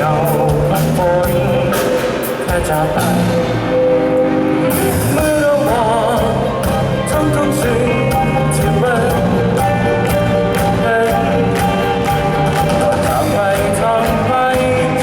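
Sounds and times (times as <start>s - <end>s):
steady drum beat: 0.0s - 3.5s, 4.8s - 15.0s
band playing a song: 0.0s - 15.0s
person singing: 0.0s - 15.0s.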